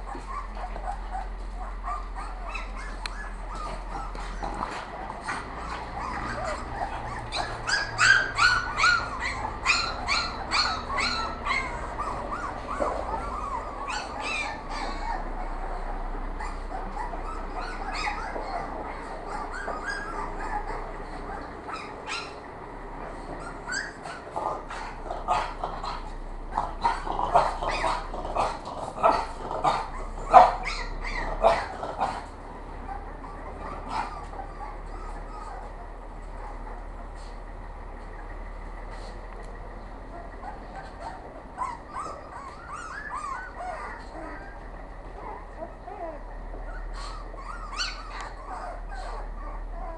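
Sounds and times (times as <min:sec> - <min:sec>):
puppies yelping and whining: 0:00.0 - 0:37.4, 0:39.9 - 0:49.9.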